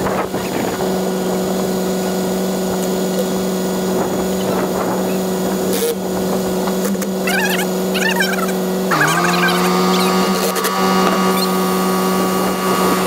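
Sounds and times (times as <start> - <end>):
air pump humming: 0.0 - 13.0.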